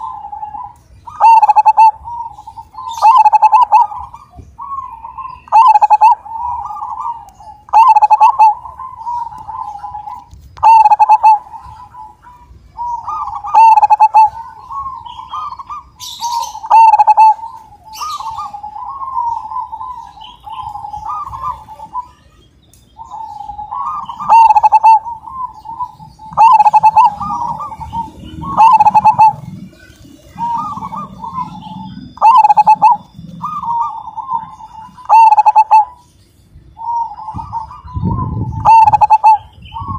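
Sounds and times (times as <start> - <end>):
dove cooing: 0.0 - 22.3, 23.0 - 39.9.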